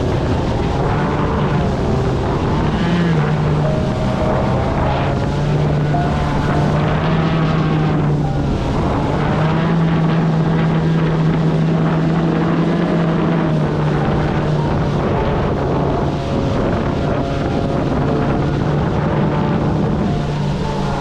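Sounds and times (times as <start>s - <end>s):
electric boat drive humming: 0.0s - 21.0s
rushing water: 0.0s - 21.0s
wind on microphone: 0.0s - 21.0s.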